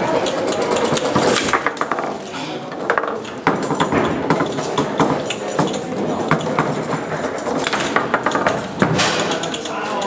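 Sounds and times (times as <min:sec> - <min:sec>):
foosball plastic clacks and knocks: 0:00.0 - 0:09.7.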